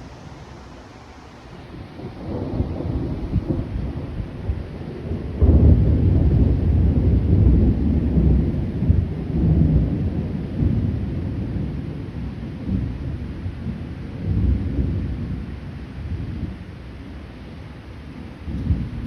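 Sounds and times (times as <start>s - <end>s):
rolling thunder: 0.0s - 16.7s, 18.1s - 19.0s.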